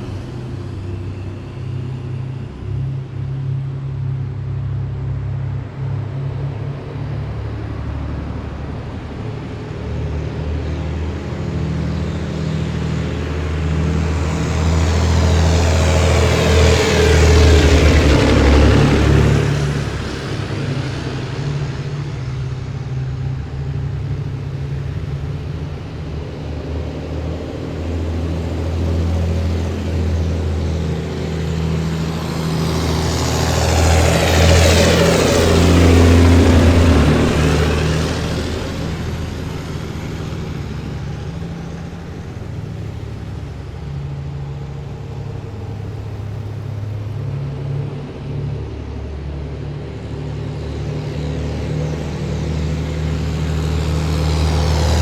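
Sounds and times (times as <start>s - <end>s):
military vehicles driving past: 0.0s - 55.0s.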